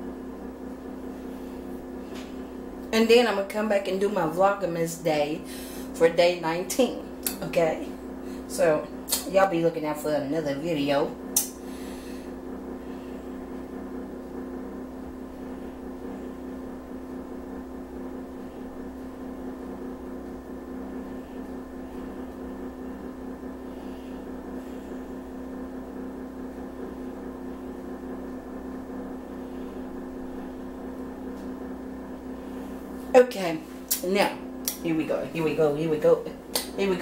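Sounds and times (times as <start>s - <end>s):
microwave oven humming: 0.0s - 37.0s.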